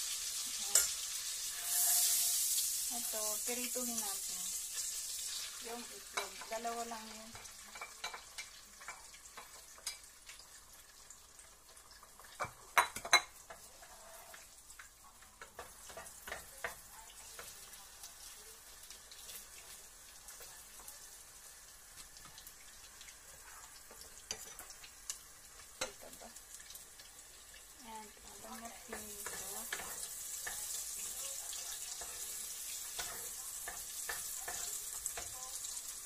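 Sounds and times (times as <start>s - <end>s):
eggs sizzling in oil: 0.0s - 36.0s.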